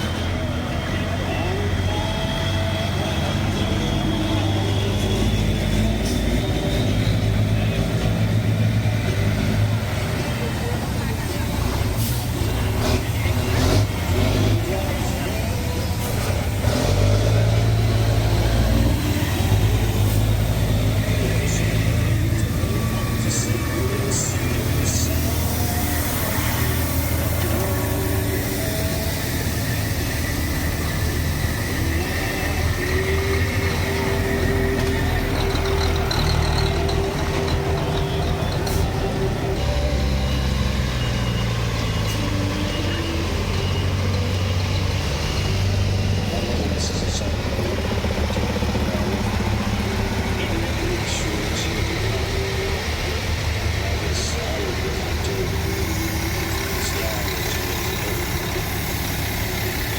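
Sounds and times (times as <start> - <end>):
heavy truck engines droning: 0.0 - 59.9.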